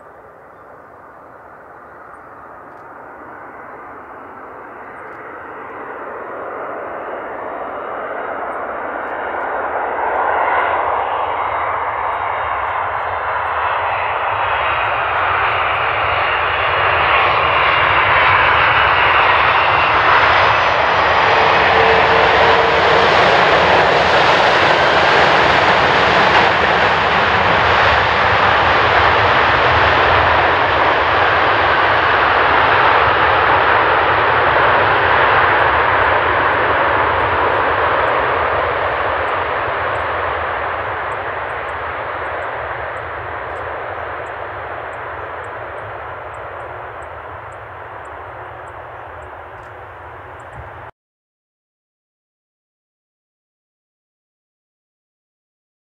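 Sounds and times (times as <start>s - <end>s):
jet engine noise: 0.0s - 50.9s.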